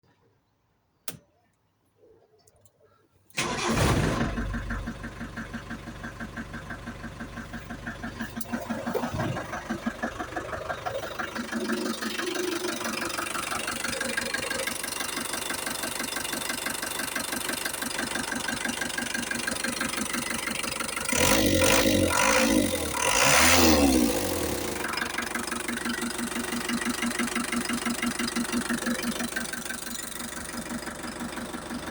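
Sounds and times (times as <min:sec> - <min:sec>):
diesel engine cranking: 0:03.3 - 0:31.9
diesel engine idling: 0:03.4 - 0:31.9.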